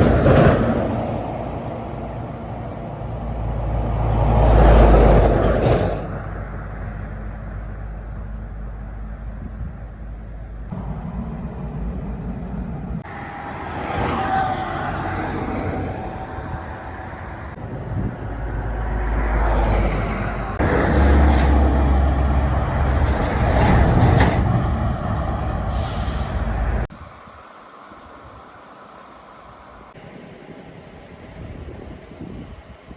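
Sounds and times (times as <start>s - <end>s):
traffic passing: 0.0s - 32.9s
vehicle engines running: 0.0s - 32.9s.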